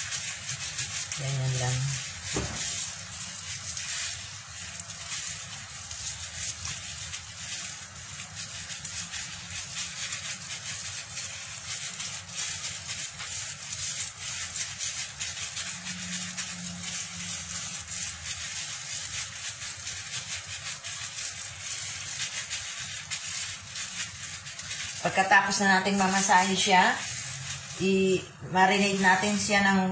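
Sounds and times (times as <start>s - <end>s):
hands squishing marinated meat: 0.0s - 28.0s.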